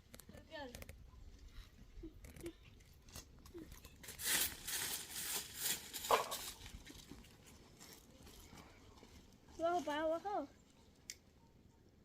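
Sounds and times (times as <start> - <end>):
rustling crinkling with crackles: 0.0 - 11.2.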